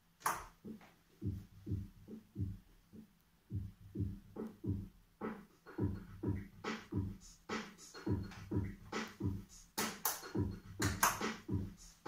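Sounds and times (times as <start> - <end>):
looped beatbox percussion: 0.6 - 12.0.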